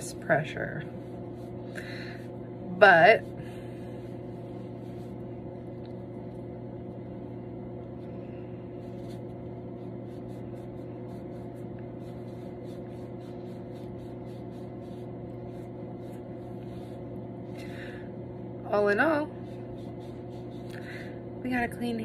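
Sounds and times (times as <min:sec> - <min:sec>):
cotton pad rubbing on skin: 0:00.0 - 0:06.4, 0:07.8 - 0:17.6, 0:18.7 - 0:20.9
steady low hum: 0:00.0 - 0:22.0.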